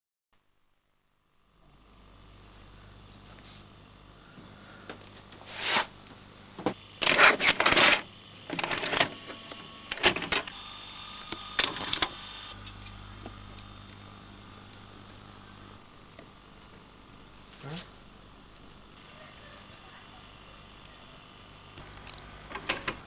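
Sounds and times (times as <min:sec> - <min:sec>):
low steady hum: 0:00.6 - 0:07.1, 0:08.1 - 0:23.0.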